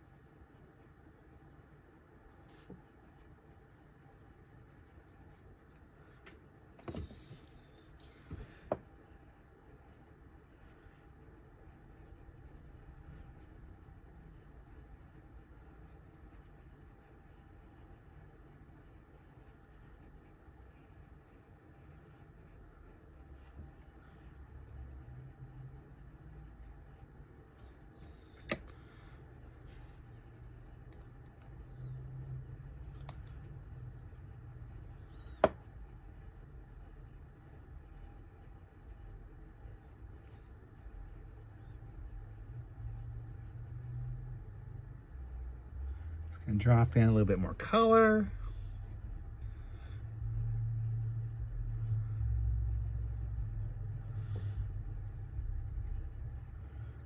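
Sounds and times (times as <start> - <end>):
low room hum: 0.0 - 57.0
low steady rumble: 0.0 - 57.0.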